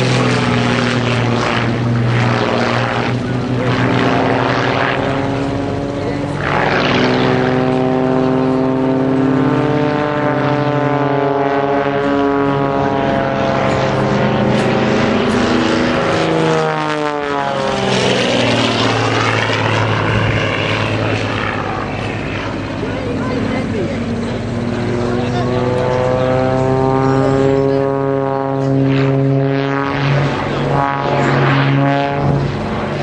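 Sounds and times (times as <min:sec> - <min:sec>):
propeller aircraft engine drone: 0:00.0 - 0:33.0.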